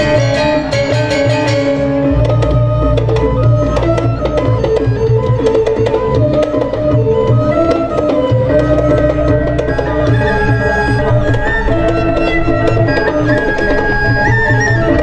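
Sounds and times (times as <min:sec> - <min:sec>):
bronze metallophones: 0:00.0 - 0:15.0
drumming: 0:00.0 - 0:15.0.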